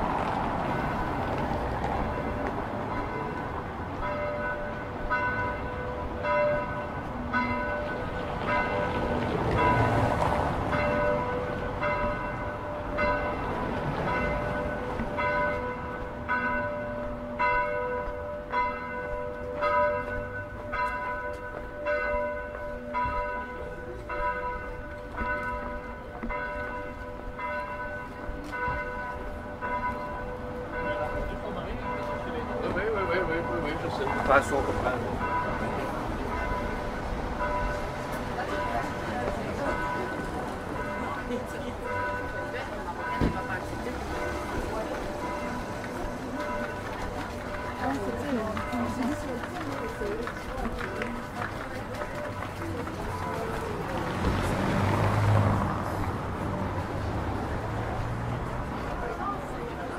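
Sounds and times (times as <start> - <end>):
church bells ringing: 0.0 - 59.9
low city traffic: 0.0 - 59.9.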